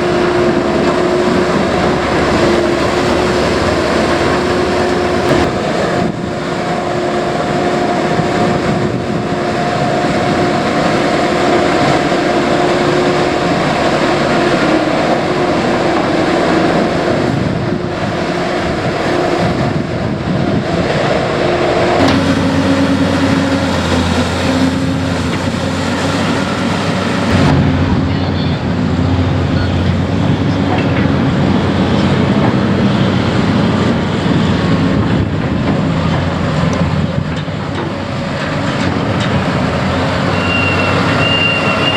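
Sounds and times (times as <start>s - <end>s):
diesel machinery running: 0.0s - 41.9s.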